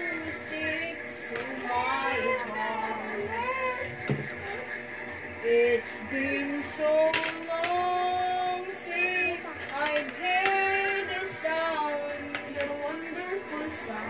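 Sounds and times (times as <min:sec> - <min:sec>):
woman singing slow melody: 0:00.0 - 0:03.9, 0:05.4 - 0:14.0.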